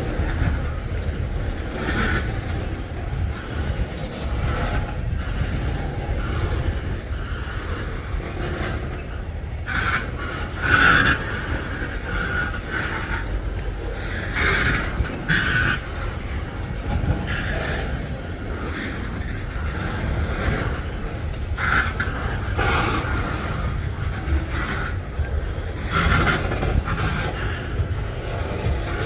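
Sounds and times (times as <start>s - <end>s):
freight train cars rumbling: 0.0s - 29.0s
wheels screeching on rails: 0.0s - 29.0s.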